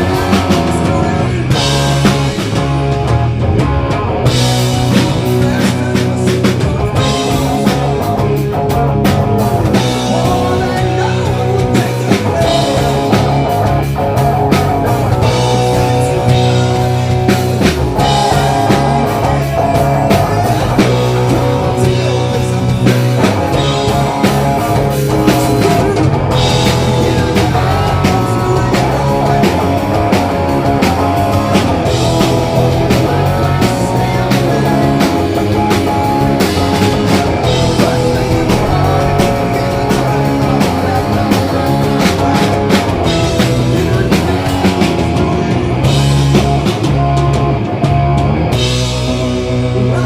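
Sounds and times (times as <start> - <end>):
drum kit: 0.0 - 50.0
electric guitar: 0.0 - 50.0.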